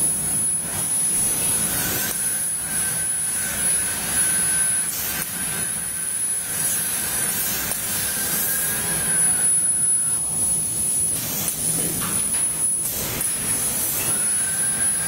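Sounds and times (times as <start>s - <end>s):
thin high-pitched whine: 0.0s - 15.0s.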